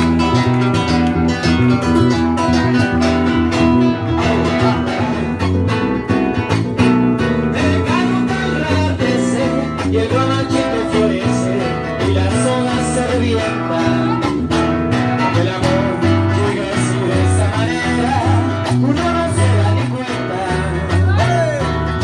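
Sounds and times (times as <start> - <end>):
strummed acoustic guitar: 0.0 - 22.0.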